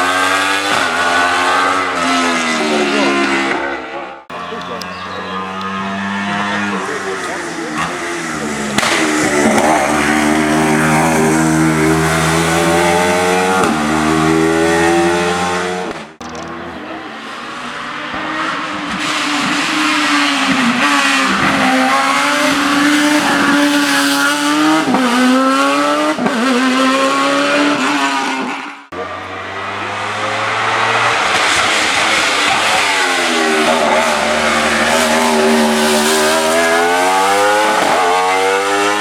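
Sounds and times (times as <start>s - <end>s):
racing car engines revving: 0.0s - 39.0s.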